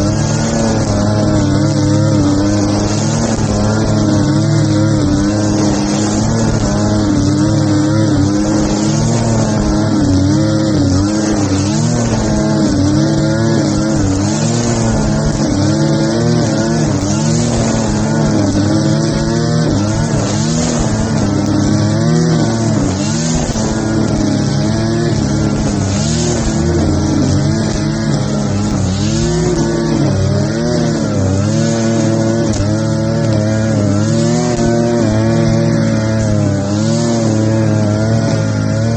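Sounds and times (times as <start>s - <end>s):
grass cutter engine running: 0.0s - 38.9s.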